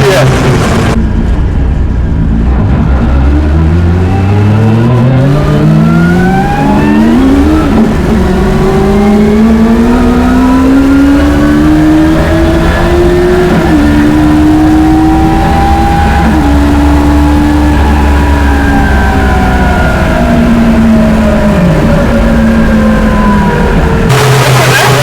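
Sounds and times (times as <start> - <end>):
car engine accelerating through gears: 0.0 - 25.0.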